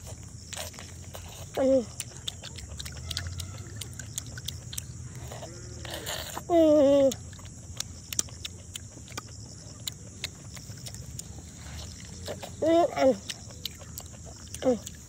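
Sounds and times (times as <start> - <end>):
chewing clicks and smacks: 0.0 - 15.0.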